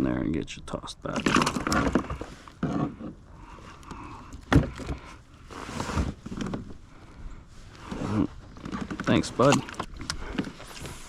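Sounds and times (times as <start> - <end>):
kayak handling noise: 1.1 - 11.0.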